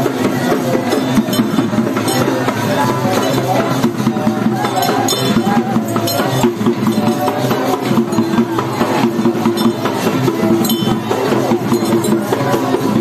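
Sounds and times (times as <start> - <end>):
drums and percussion: 0.0 - 13.0.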